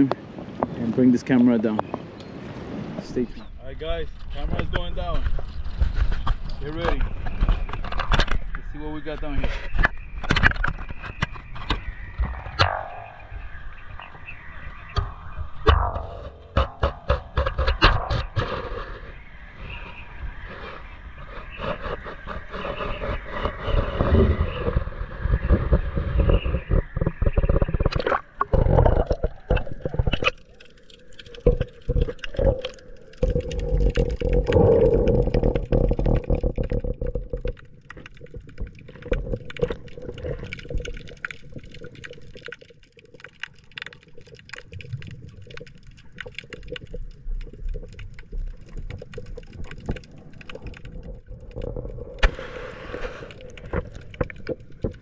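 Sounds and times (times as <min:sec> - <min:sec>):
underwater sloshing and rumbling: 0:01.4 - 0:55.0
sharp underwater clicks: 0:03.8 - 0:55.0.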